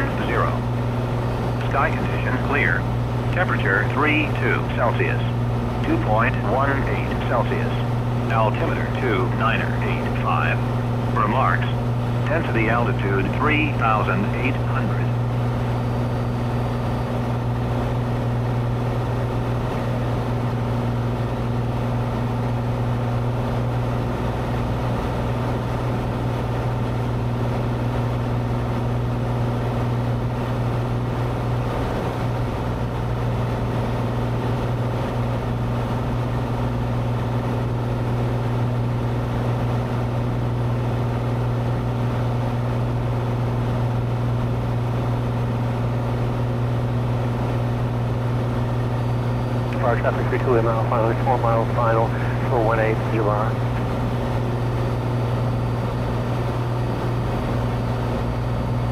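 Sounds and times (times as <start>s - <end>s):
light aircraft engine drone: 0.0s - 58.9s.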